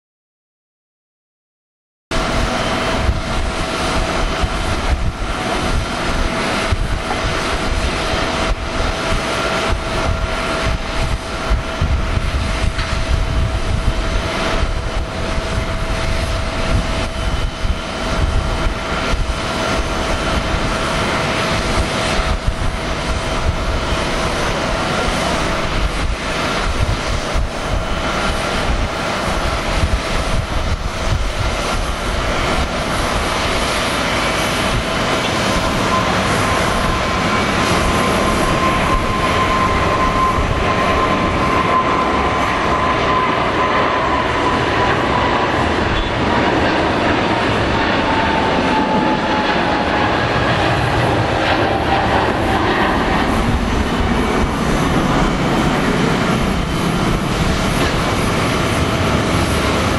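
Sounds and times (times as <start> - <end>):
jet engines roaring: 2.1 - 59.9.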